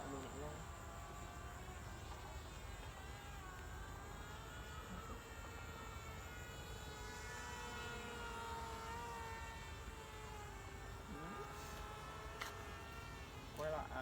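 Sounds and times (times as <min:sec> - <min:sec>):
toy plane motor buzzing: 0:00.0 - 0:13.9.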